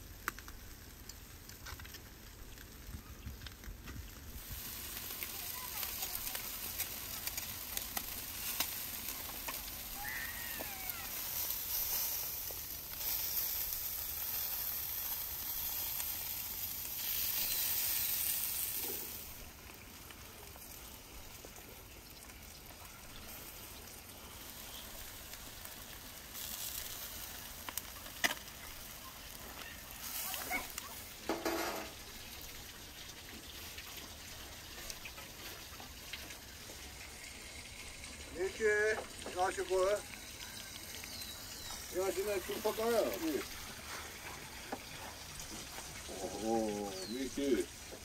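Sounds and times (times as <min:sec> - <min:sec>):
fat sizzling and popping: 0:00.0 - 0:48.0.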